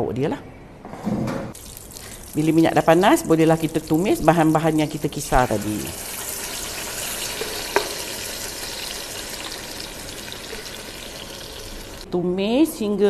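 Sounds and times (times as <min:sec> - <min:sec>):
spice paste sizzling in oil: 0:01.6 - 0:12.1.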